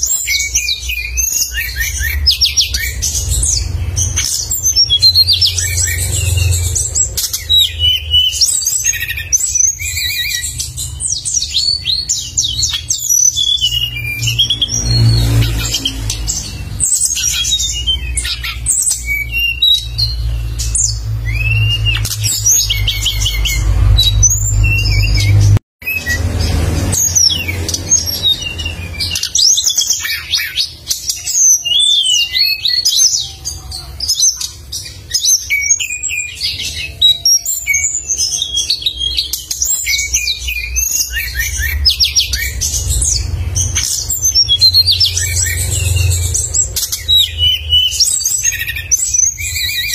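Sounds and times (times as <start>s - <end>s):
songbird chirping and whistling: 0.0s - 49.9s.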